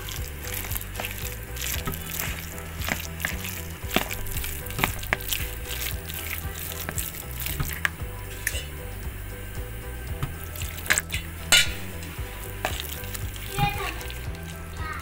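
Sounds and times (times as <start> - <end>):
spoon stirring wet batter: 0.0 - 15.0.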